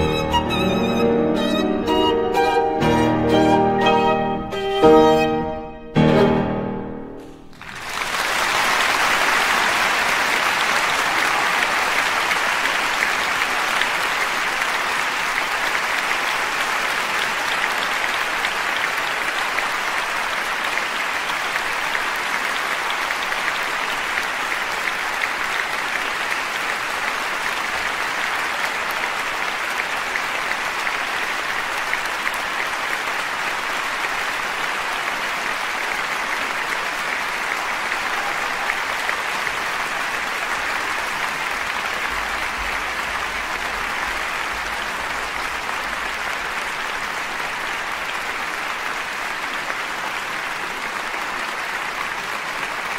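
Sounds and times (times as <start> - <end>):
audience applauding: 7.4 - 52.9.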